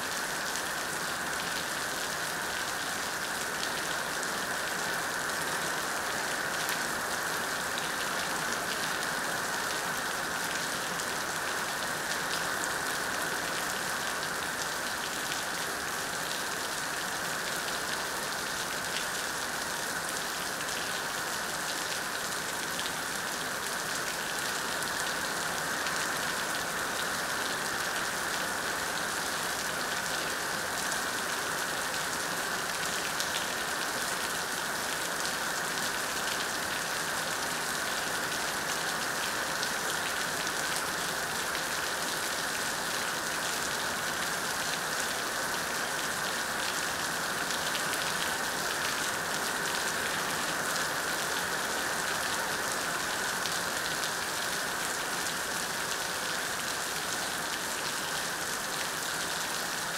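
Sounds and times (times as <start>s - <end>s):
heavy rain on hard surfaces: 0.0s - 59.9s.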